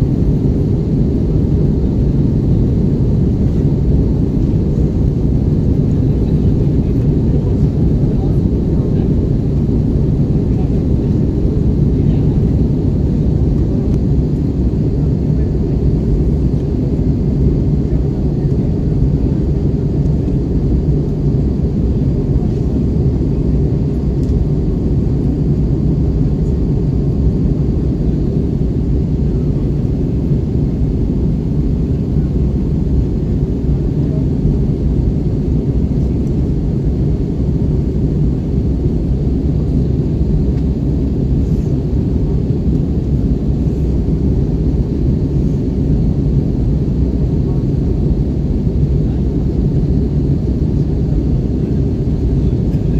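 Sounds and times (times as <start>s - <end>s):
airliner low rumble: 0.0s - 52.9s.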